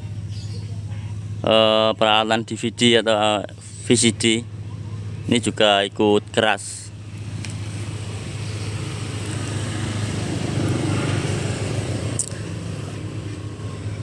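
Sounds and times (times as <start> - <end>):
motor engine humming: 0.0 - 14.0.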